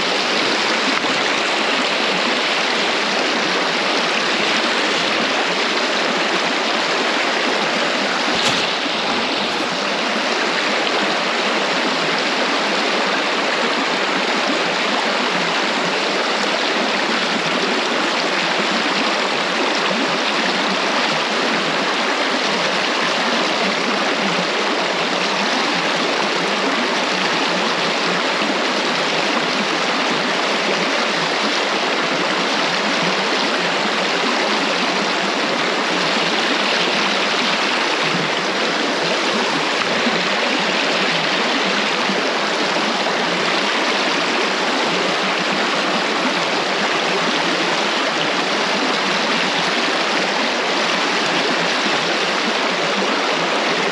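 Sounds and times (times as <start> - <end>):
river water rushing over stones: 0.0 - 53.9.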